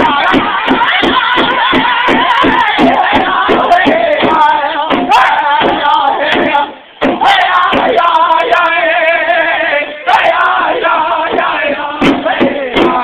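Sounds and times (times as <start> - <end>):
drum strikes: 0.0 - 8.6, 10.2 - 13.0
group chanting: 0.0 - 13.0.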